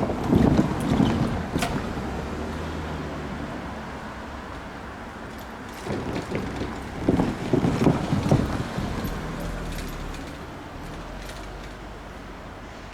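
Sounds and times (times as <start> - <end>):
train wheels clattering over rails: 0.0 - 12.5
steady train rumble: 0.0 - 12.9.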